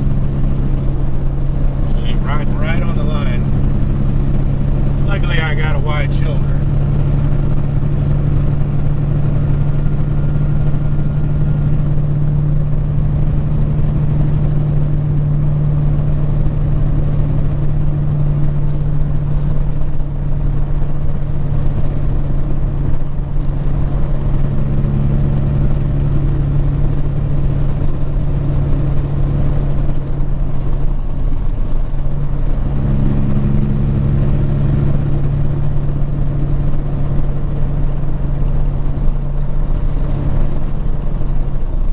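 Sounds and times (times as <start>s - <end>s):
diesel engine drone: 0.0s - 41.9s
road noise: 0.0s - 41.9s.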